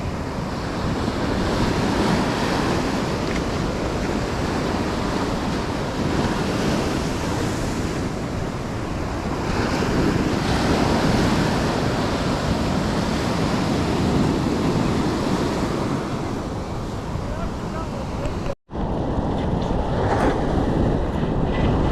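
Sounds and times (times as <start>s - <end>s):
ocean surf washing onto shore: 0.0s - 21.9s
wind buffeting microphone: 0.0s - 21.9s.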